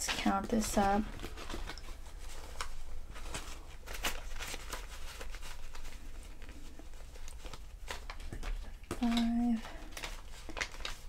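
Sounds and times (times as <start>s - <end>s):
banknotes rustling: 0.0s - 11.0s.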